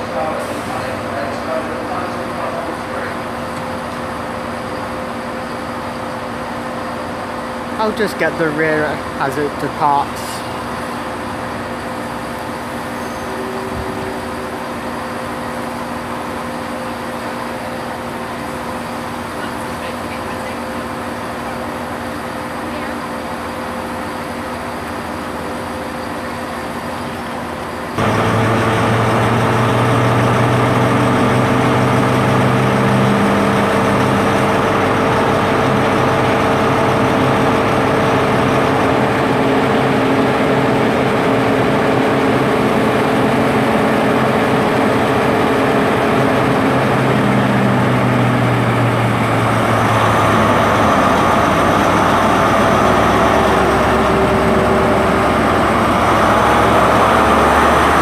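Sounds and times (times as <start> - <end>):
diesel train engine idling: 0.0 - 58.0.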